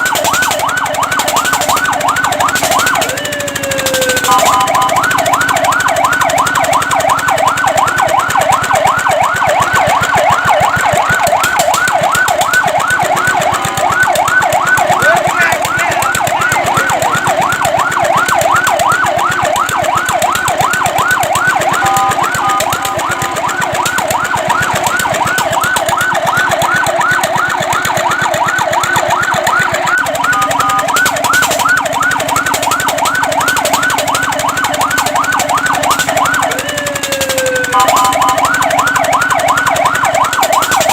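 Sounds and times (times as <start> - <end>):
fire truck siren yelping: 0.0 - 40.9.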